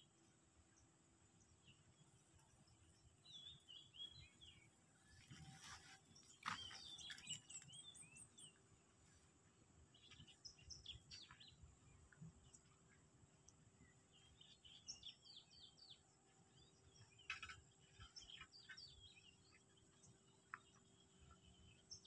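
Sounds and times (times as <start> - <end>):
birds chirping and warbling: 0.0 - 22.0.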